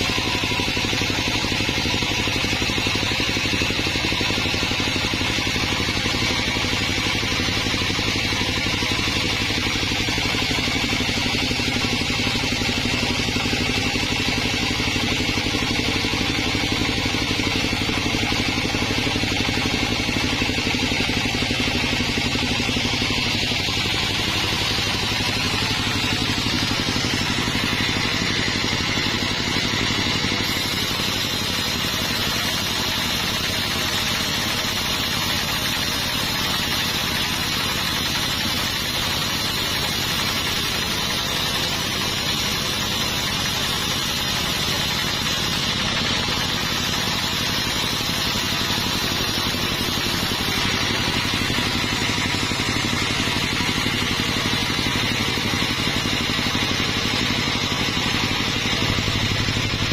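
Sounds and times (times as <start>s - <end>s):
sawmill engine hum: 0.0s - 59.9s
sawmill high whine: 0.0s - 59.9s.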